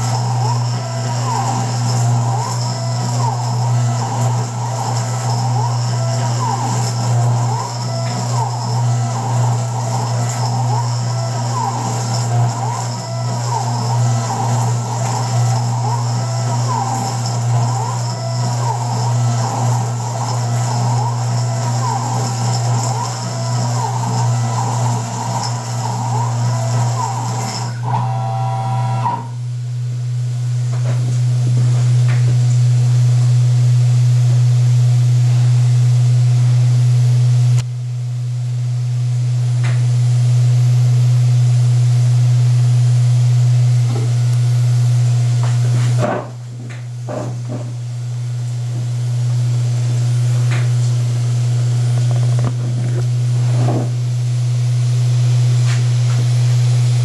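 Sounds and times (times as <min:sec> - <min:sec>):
milling machine spindle humming: 0:00.0 - 0:36.2, 0:39.2 - 0:57.0.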